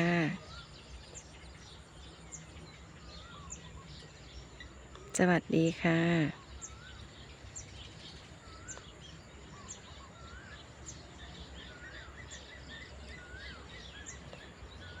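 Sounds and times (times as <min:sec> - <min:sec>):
bird whistled call: 0:00.0 - 0:04.2, 0:06.4 - 0:15.0
high bird chirps: 0:00.0 - 0:15.0
low background hiss: 0:00.0 - 0:15.0.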